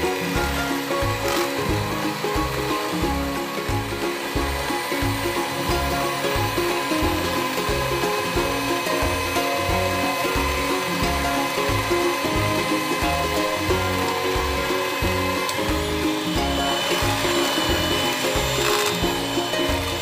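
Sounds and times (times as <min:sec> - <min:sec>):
electric hand mixer whipping batter: 0:00.0 - 0:20.0
music with rhythmic bassline: 0:00.0 - 0:20.0.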